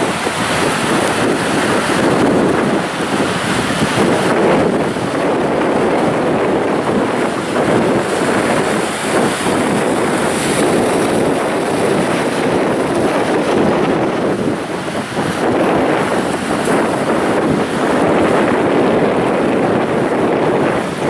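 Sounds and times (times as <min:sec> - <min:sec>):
wave crashing: 0:00.0 - 0:21.0
waves washing over rocks: 0:00.0 - 0:21.0.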